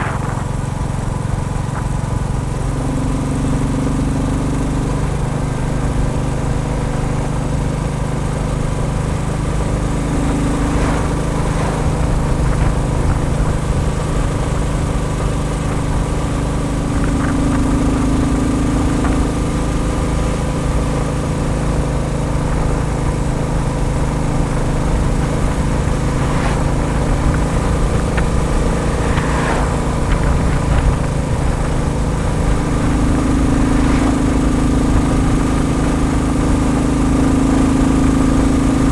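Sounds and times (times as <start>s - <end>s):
higher-pitched engine tone: 0.0s - 38.9s
single-cylinder motorcycle engine running: 0.0s - 38.9s.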